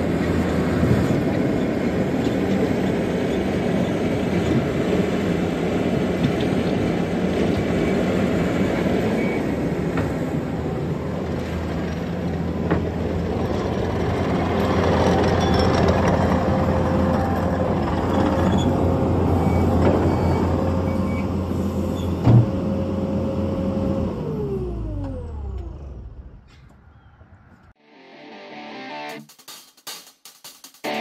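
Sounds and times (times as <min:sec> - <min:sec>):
diesel engine running: 0:00.0 - 0:26.6.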